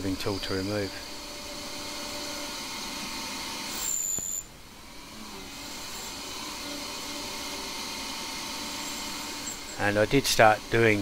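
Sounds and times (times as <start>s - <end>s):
lathe machine hum: 0.0s - 4.0s, 4.6s - 11.0s.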